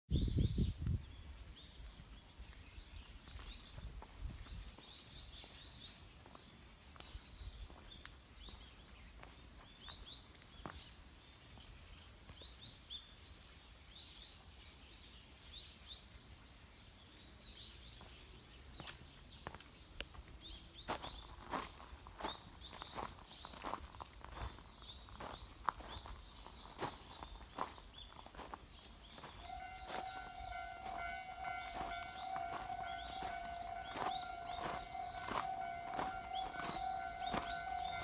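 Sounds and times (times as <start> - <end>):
small birds chirping: 0.1 - 16.0, 16.8 - 38.0.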